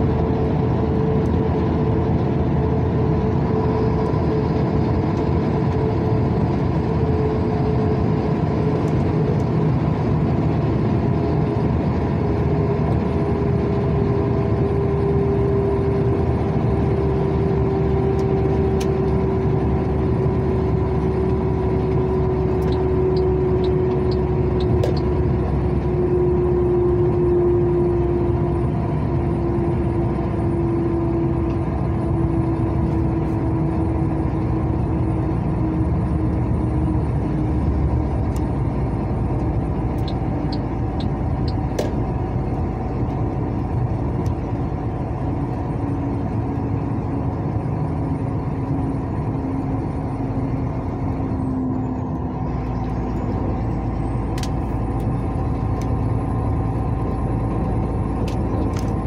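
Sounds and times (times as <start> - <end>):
droning hum: 0.0 - 59.0
vehicle engine and road noise: 0.0 - 59.0.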